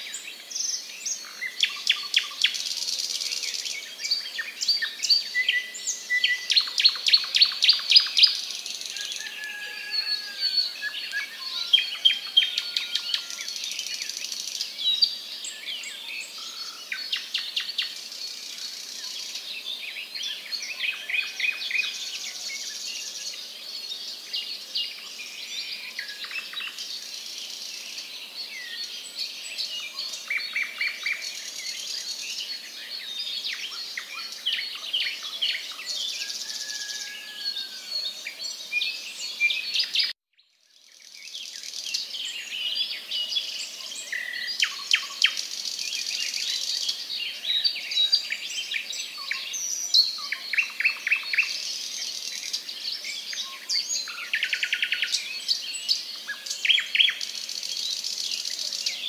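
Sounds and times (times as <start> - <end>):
wild birds chirping and trilling: 0.0 - 59.0.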